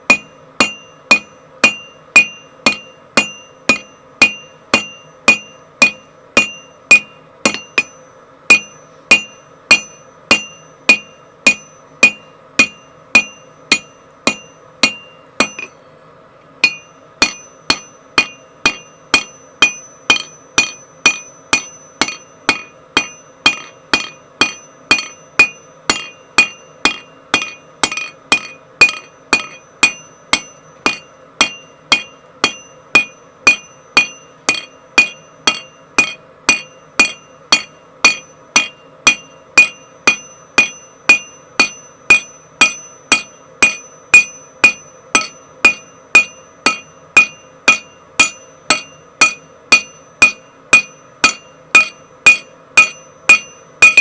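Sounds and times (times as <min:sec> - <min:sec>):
hammer striking steel on anvil: 0:00.0 - 0:15.9, 0:16.6 - 0:54.0
steady hum: 0:00.0 - 0:54.0.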